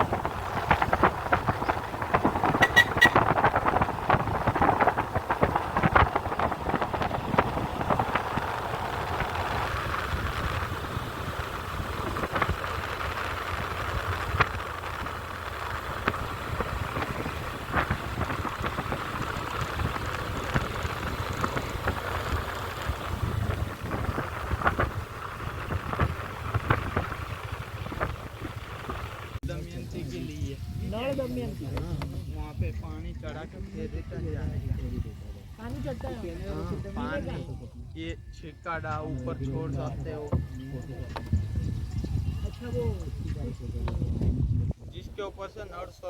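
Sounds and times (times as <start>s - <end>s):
low rumble: 0.0s - 45.2s
wind buffeting microphone: 0.0s - 46.0s.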